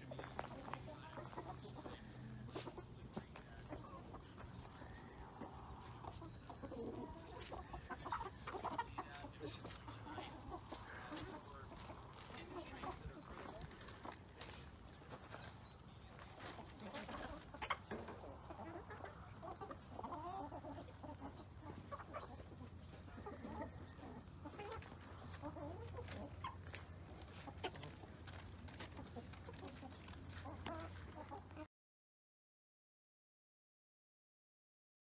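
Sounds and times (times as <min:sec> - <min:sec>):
chickens clucking: 0:00.0 - 0:31.7.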